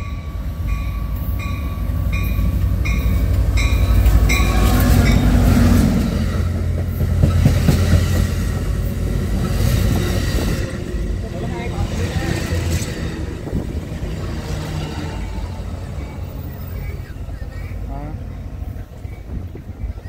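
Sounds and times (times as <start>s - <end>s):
diesel locomotive engine passing: 0.0s - 20.0s
rail cars rumbling and wheel clatter: 0.0s - 20.0s.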